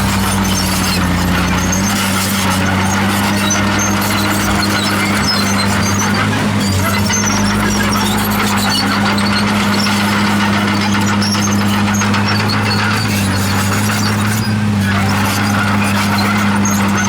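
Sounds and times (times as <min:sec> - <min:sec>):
bulldozer diesel engine running: 0:00.0 - 0:17.0
steel tracks squealing: 0:00.0 - 0:17.0.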